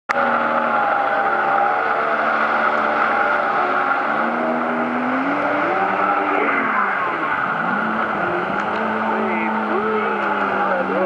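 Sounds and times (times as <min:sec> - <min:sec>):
jet ski engine whine: 0:00.1 - 0:11.0.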